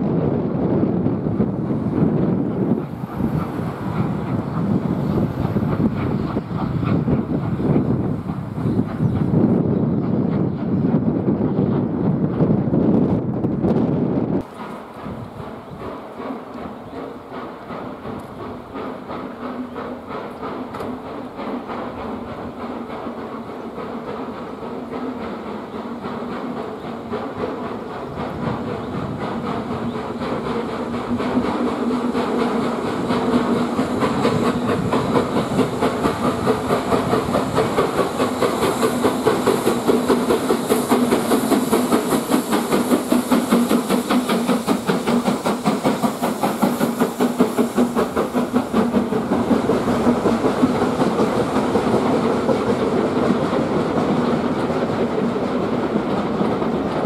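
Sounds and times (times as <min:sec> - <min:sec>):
coach wheels clattering over rail joints: 0:00.0 - 0:57.0
steam locomotive exhaust beating: 0:00.0 - 0:57.0.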